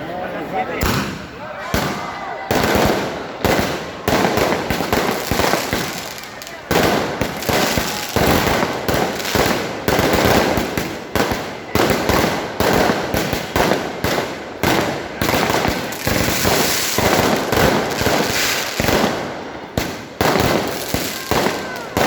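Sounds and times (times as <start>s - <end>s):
fireworks bangs: 0.8s - 22.0s.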